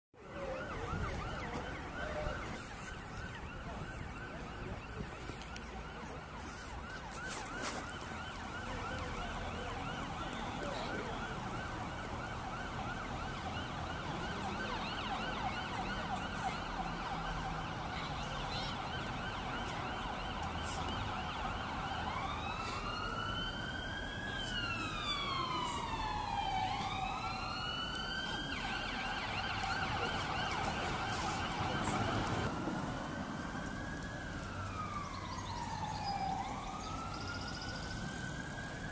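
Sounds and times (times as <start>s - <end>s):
emergency vehicle siren: 0.2s - 38.9s
road noise: 0.2s - 38.9s.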